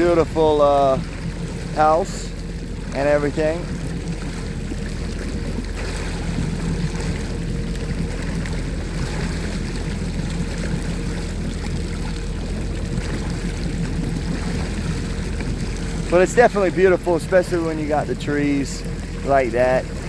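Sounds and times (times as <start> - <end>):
boat engine humming: 0.0 - 20.0
water noise: 0.0 - 20.0
wind: 0.0 - 20.0.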